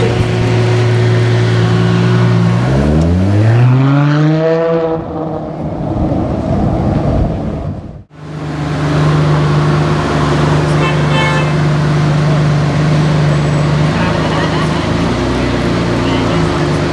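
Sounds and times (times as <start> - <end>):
car engine accelerating: 0.0 - 6.4, 8.1 - 16.9.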